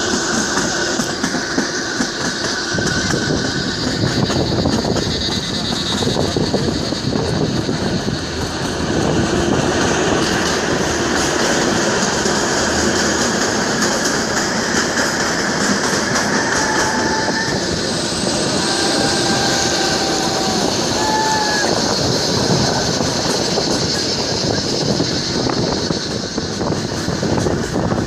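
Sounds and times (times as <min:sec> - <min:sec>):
train wheels rumbling on rail: 0:00.0 - 0:28.0
high wheel squeals: 0:00.8 - 0:09.1, 0:13.2 - 0:28.0.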